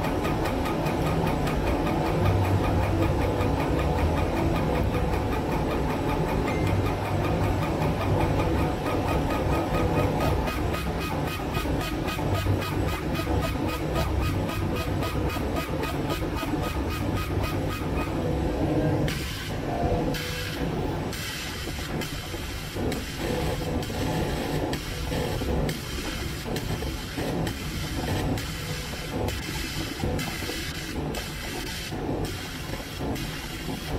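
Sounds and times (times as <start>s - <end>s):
laser cutter humming: 0.0s - 33.9s
rhythmic pulsing: 0.0s - 33.9s.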